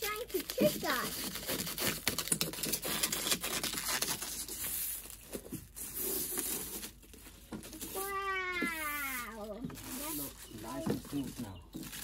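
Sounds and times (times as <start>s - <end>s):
plastic film crinkling as peeled: 0.0s - 12.0s.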